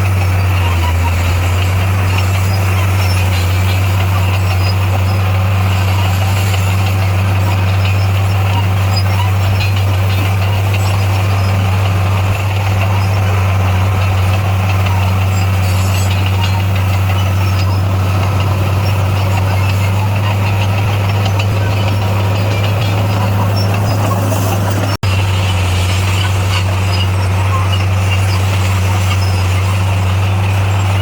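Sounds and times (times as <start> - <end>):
bulldozer diesel engine droning: 0.0 - 31.0.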